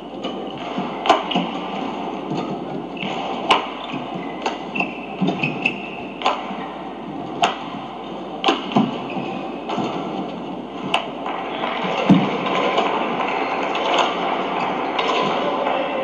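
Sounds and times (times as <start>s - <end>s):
racquets hitting shuttlecock: 0.2s - 16.0s.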